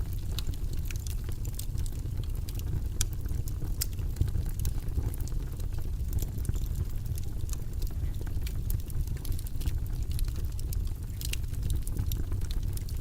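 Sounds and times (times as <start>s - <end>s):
low rumbling background noise: 0.0s - 13.0s
small irregular crackles: 0.0s - 13.0s.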